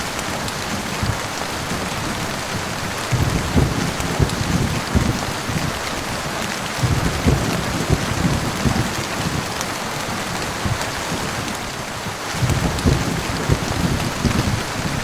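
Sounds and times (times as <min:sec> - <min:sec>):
heavy rain hissing: 0:00.0 - 0:15.0
rumbling thunder: 0:00.3 - 0:15.0.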